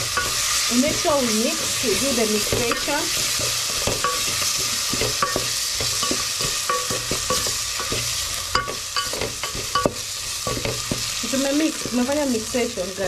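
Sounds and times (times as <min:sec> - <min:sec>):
spoon scraping and knocking pot: 0:00.0 - 0:12.1
food sizzling in a pot: 0:00.0 - 0:13.0.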